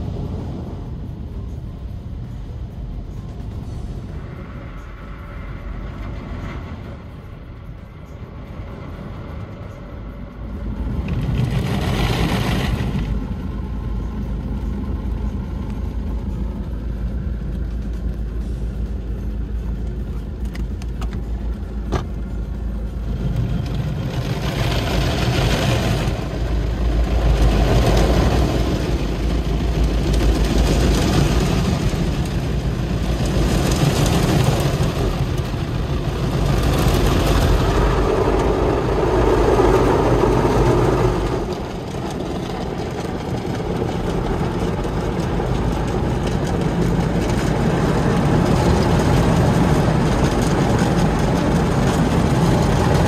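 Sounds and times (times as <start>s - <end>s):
car wash water rushing and hissing: 0.0s - 53.0s
machinery low rumble: 0.0s - 53.0s.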